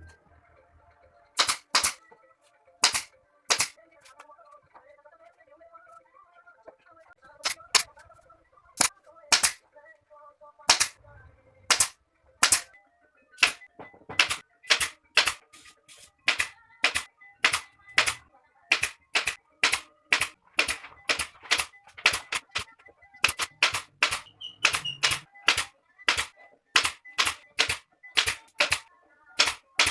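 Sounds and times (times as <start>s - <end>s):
faint background music: 0.0s - 29.9s.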